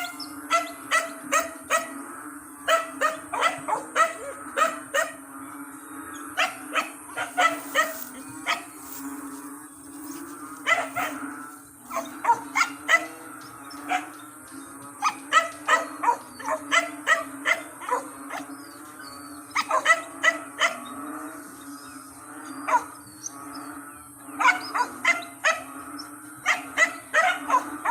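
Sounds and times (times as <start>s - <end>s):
frogs croaking: 0.0s - 27.9s
low drone of frogs: 0.0s - 27.9s.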